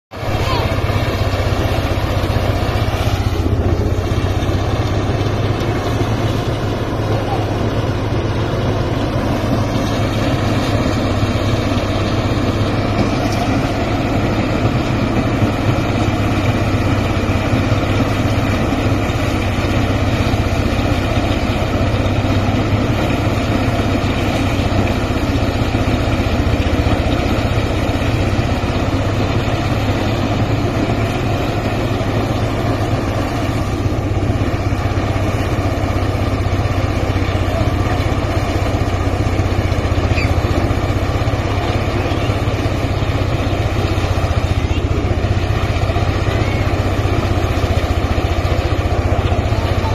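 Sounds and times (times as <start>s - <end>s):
rice thresher mechanical drone: 0.1s - 49.9s.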